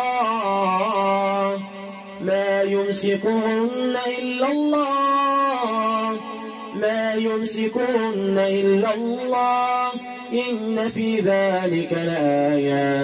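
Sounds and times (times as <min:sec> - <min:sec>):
person chanting melodic recitation: 0:00.0 - 0:13.0.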